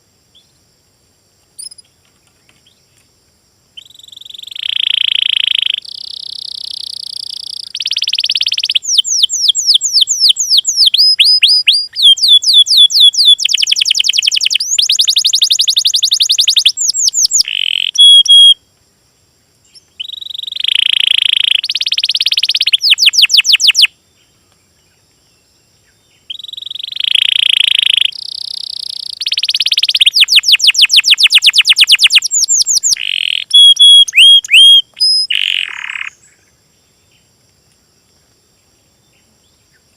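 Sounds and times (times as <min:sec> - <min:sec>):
songbird singing trills: 0:01.5 - 0:03.0, 0:03.7 - 0:18.6, 0:19.6 - 0:37.4.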